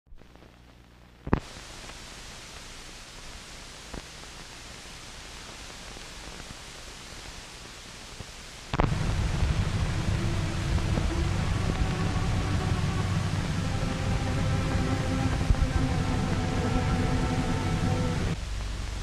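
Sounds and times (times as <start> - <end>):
film soundtrack hiss: 0.1 - 19.0.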